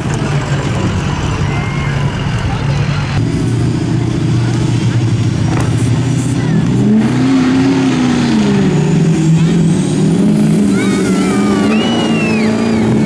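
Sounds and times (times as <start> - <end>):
diesel truck engines at full throttle: 0.0 - 13.0.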